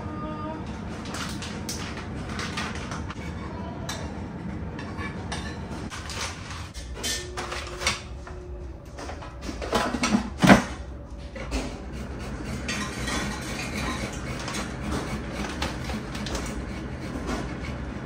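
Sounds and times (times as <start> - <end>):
air fryer whirring: 0.0 - 18.0.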